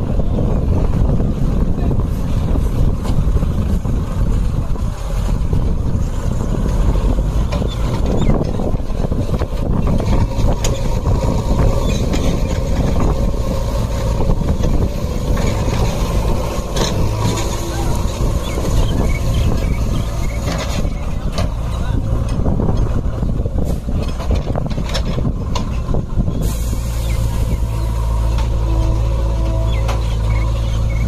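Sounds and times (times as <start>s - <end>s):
diesel engines rumbling: 0.0s - 31.0s.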